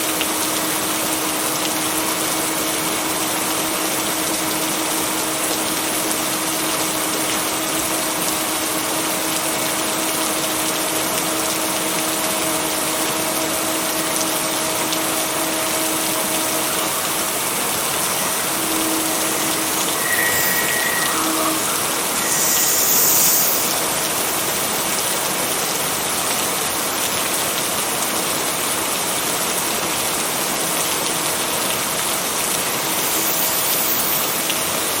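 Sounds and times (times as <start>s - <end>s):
heavy rain hiss: 0.0s - 35.0s.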